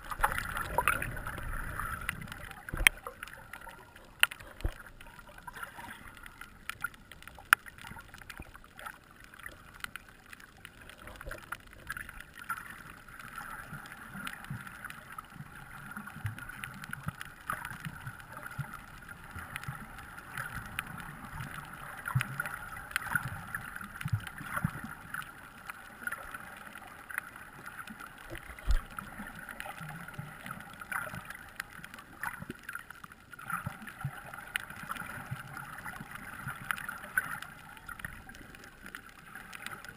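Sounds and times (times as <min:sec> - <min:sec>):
muffled underwater wash: 0:00.0 - 0:39.9
underwater clicks and crackles: 0:00.0 - 0:39.9.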